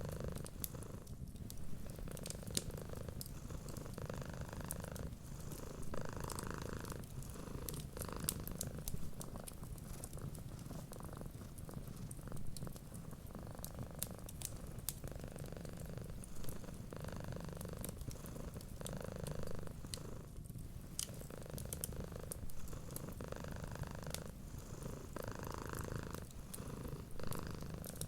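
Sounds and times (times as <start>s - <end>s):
cat purring: 0.0s - 28.0s
wood fire crackling: 0.0s - 28.0s.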